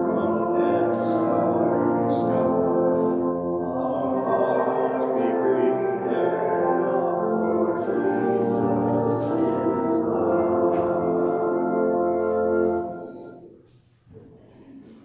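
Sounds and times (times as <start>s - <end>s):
church hymn sustained chords: 0.0s - 13.7s.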